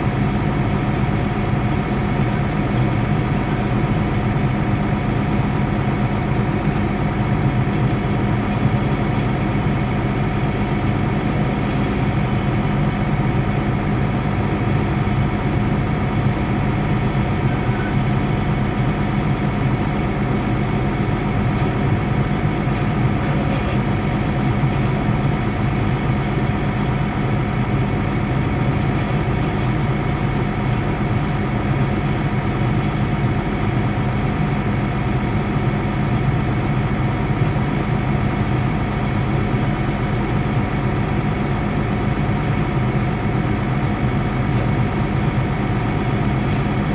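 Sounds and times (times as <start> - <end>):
bulldozer diesel engine idling: 0.0 - 46.9.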